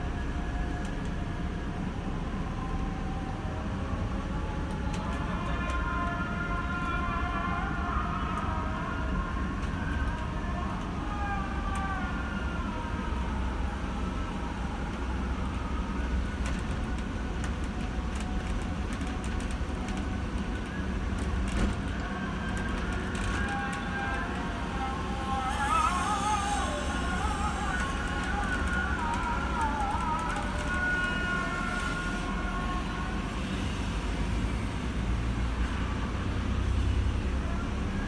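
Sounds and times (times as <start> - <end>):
diesel engine drone: 0.0 - 38.0.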